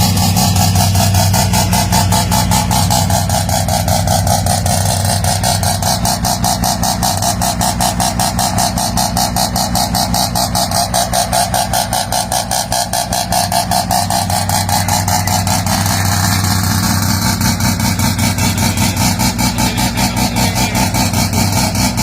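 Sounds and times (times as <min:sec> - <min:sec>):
rotary engine idling: 0:00.0 - 0:22.0.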